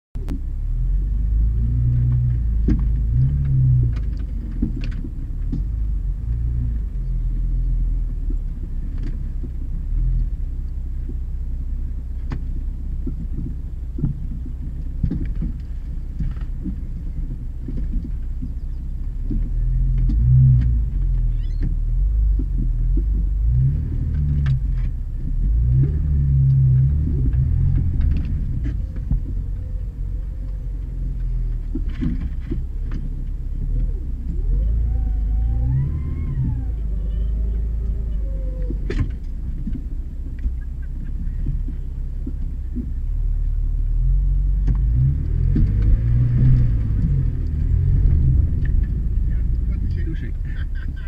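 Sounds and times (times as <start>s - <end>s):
off-road vehicle engine low revs: 0.2s - 51.0s.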